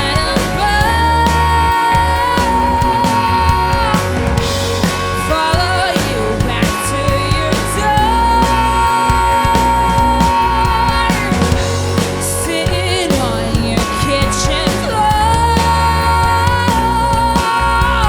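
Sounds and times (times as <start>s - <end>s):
bass guitar: 0.0s - 18.0s
drums: 0.0s - 18.0s
electric guitar: 0.0s - 18.0s.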